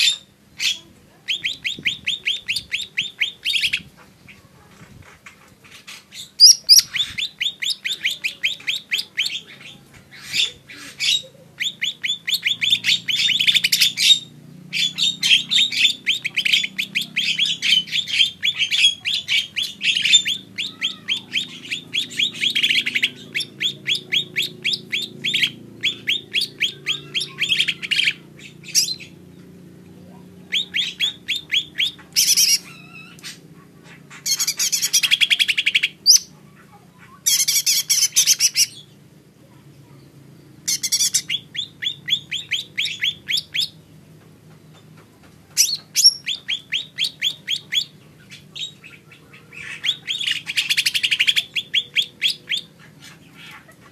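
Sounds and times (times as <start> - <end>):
bird fast chirping song: 0.0 - 3.9, 5.6 - 39.0, 39.8 - 53.9.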